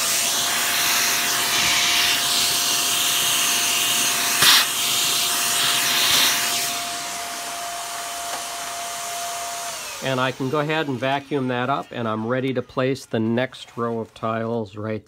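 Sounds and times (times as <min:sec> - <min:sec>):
handheld vacuum running: 0:00.0 - 0:13.4.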